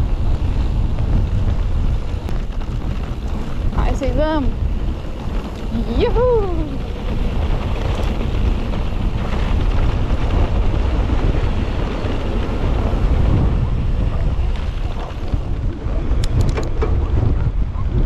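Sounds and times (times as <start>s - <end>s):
mountain bike rolling on dirt: 0.0s - 18.0s
wind buffeting microphone: 0.0s - 18.0s.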